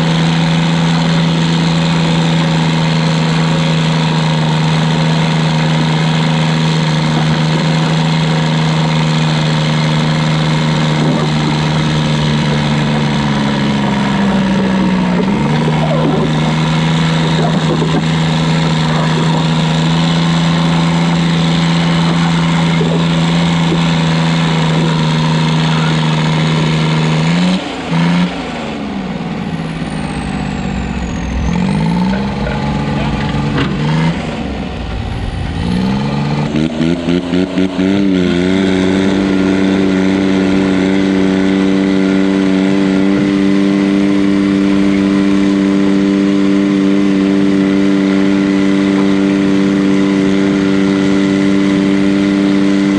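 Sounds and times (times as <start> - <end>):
diesel tractor engine revving: 0.0 - 52.9.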